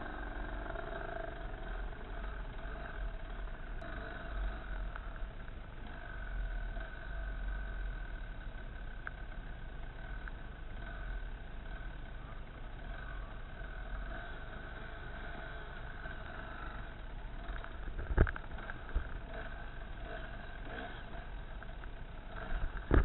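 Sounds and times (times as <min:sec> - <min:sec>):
dirt bike engine at low revs: 0:00.0 - 0:23.0.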